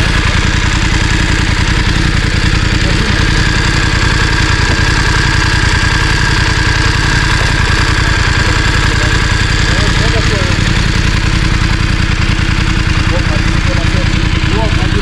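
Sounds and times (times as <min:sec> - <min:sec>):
twin engine idling: 0:00.0 - 0:15.0.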